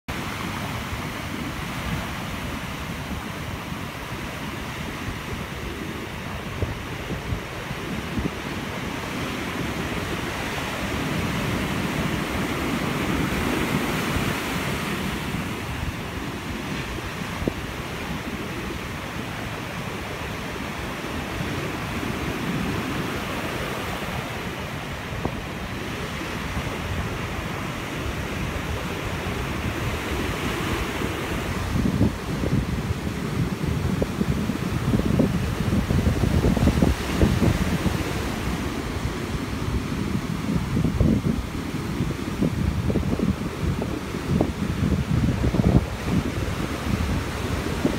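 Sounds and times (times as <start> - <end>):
storm surf breaking on a beach: 0.1 - 47.9
wind rumbling on the microphone: 0.1 - 47.9.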